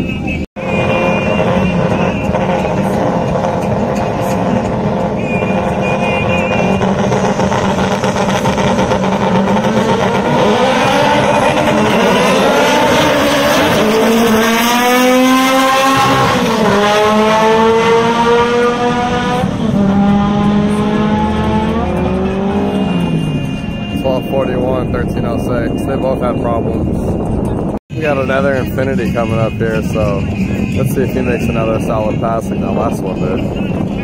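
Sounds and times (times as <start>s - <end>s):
drag racing car accelerating: 0.6s - 34.0s.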